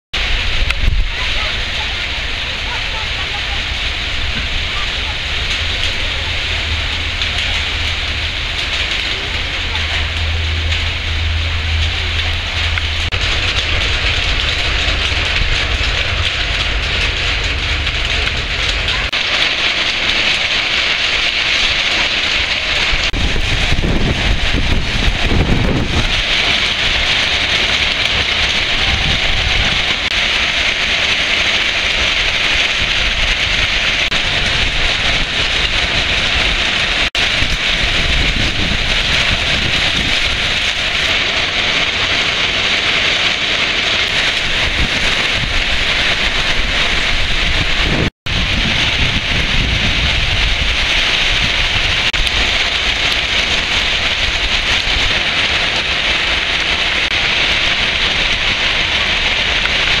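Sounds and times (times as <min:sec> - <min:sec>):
heavy rain pouring: 0:00.1 - 1:00.0
low rumble: 0:00.2 - 1:00.0.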